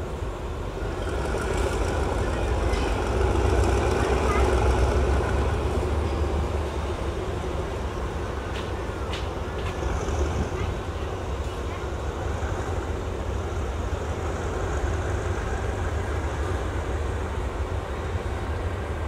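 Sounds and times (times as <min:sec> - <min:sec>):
locomotive engine rumbling: 0:00.0 - 0:19.0.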